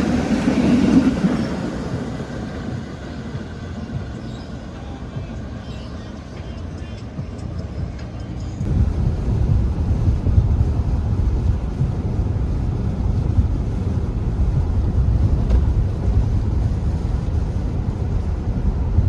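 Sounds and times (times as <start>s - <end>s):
wind buffeting microphone: 0.0s - 6.4s, 8.6s - 19.0s
street traffic rumble: 0.0s - 19.0s.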